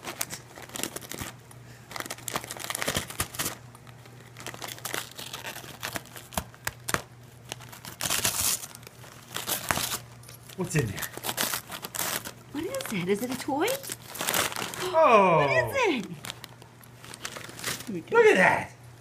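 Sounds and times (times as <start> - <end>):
wrapping paper crinkling and ripping: 0.0 - 18.6.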